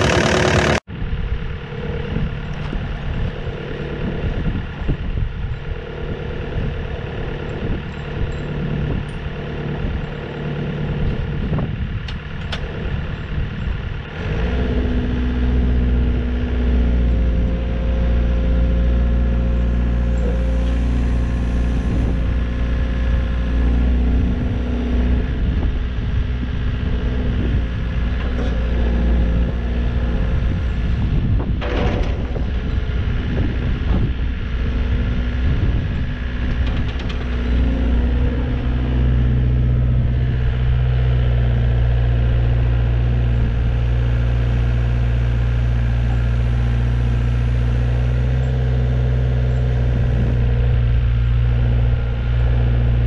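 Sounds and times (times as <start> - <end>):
excavator diesel engine: 0.0 - 53.0.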